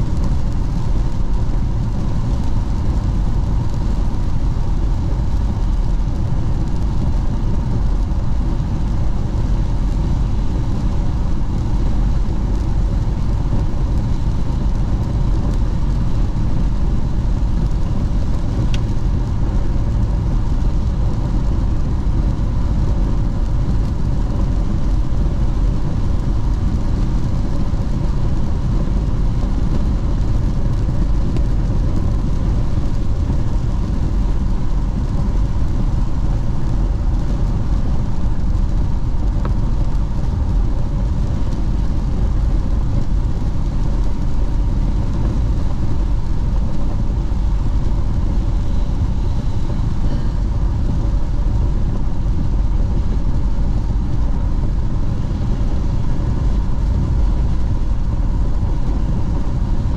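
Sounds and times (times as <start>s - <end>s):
car tyre and engine rumble: 0.0s - 59.9s.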